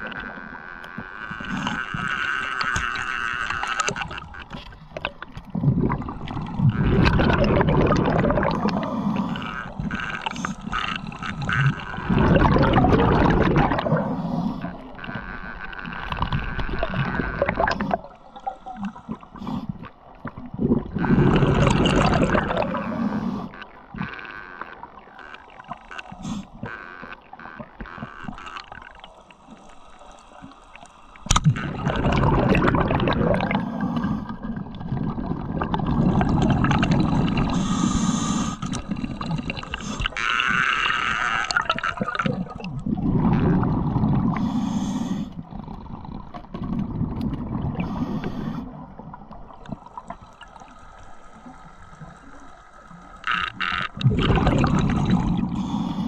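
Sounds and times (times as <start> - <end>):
underwater churning: 0.0 - 56.0.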